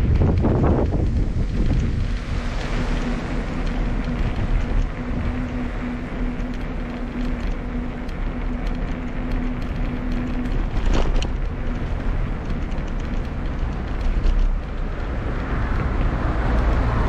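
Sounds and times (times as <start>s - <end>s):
steady hum: 0.0s - 17.0s
wind buffeting microphone: 0.0s - 17.0s.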